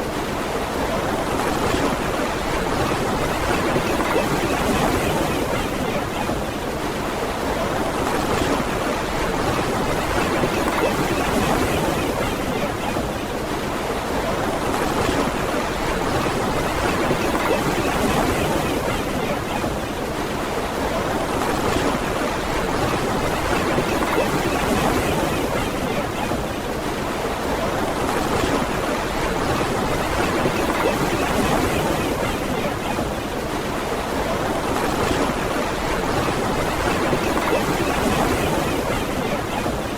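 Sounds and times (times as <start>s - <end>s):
ocean surf on a beach: 0.0s - 39.9s.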